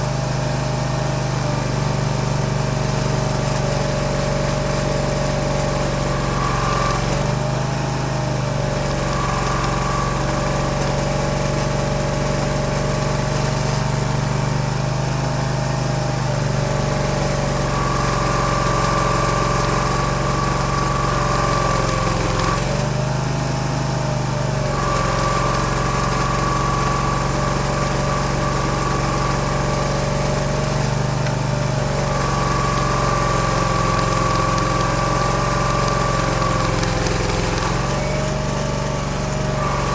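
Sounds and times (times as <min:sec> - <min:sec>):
stump grinder engine whining: 0:00.0 - 0:39.9.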